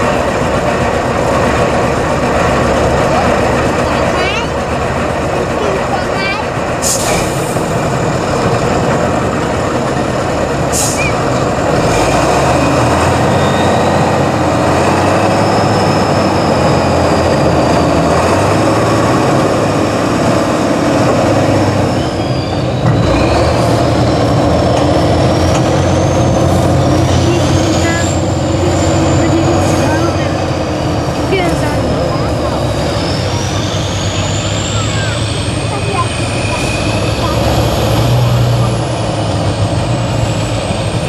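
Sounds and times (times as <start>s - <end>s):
truck diesel engine labouring: 0.0s - 41.0s.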